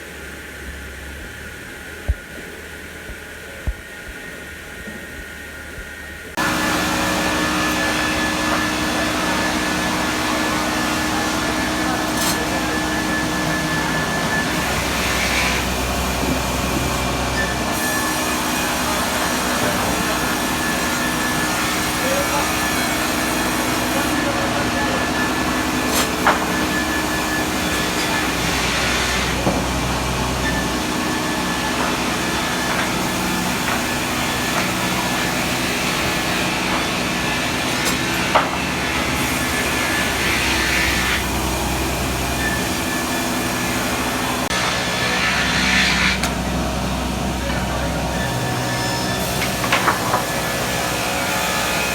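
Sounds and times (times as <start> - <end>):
sawmill machinery sawing: 6.4 - 51.9.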